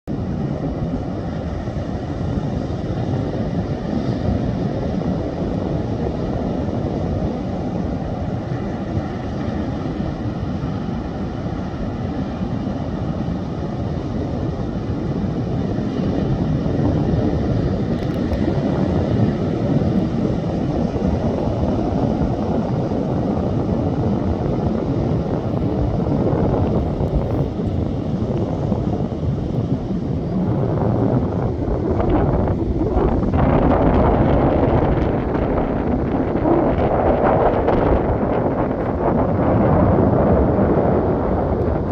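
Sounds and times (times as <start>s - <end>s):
waves breaking on a beach: 0.1s - 41.9s.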